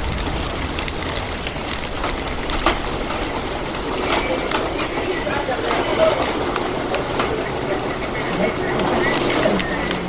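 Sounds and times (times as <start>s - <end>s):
rain hiss: 0.0s - 10.0s
raindrops tapping on hard surface: 0.0s - 10.0s.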